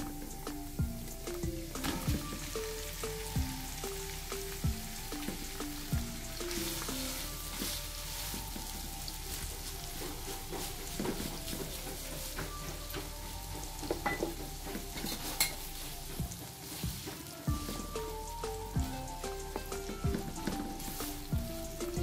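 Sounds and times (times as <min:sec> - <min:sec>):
background music with a beat: 0:00.0 - 0:22.0
meat sizzling in hot oil: 0:00.0 - 0:22.0
spoon stirring in wok: 0:00.1 - 0:22.0.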